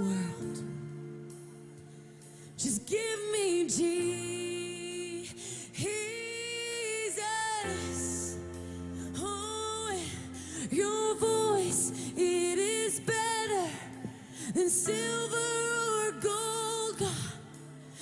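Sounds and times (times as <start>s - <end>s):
woman singing: 0.0s - 0.9s, 2.6s - 18.0s.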